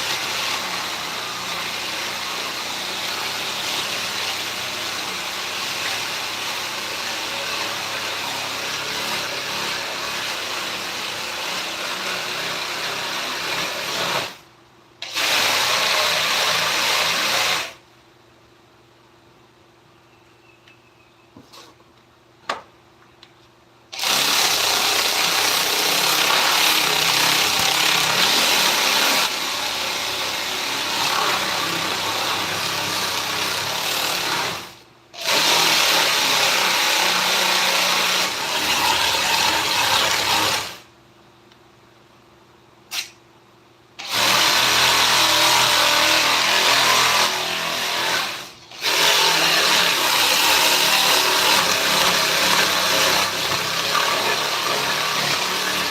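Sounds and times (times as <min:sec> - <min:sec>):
power tool working wood: 0:00.0 - 0:14.4, 0:15.0 - 0:17.8, 0:24.0 - 0:40.8, 0:44.0 - 0:55.9.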